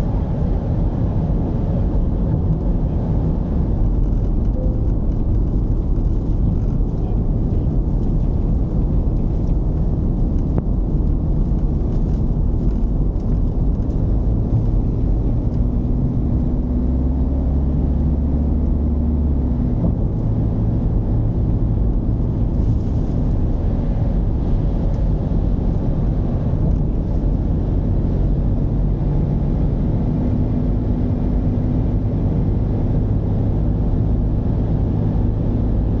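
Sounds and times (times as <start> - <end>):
diesel engine droning: 0.0 - 36.0
road rumble: 0.0 - 36.0.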